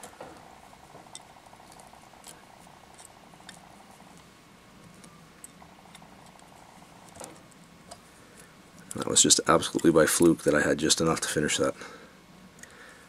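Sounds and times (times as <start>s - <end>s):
light ticks and rustles: 0.0s - 11.8s
faint steady hum: 0.0s - 13.0s.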